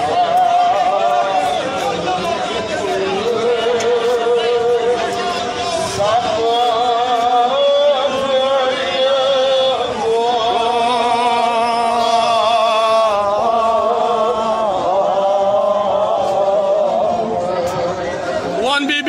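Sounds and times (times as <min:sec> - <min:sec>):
man chanting lament: 0:00.0 - 0:19.0.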